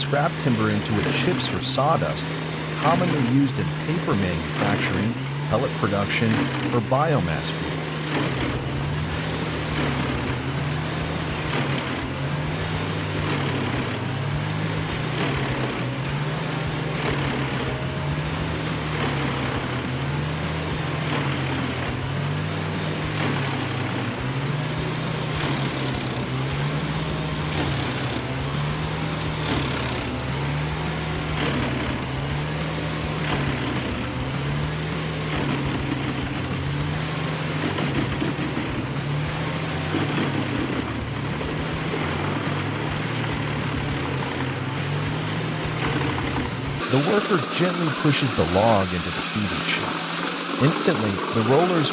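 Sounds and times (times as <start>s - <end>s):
engine running with low hum: 0.0s - 51.9s.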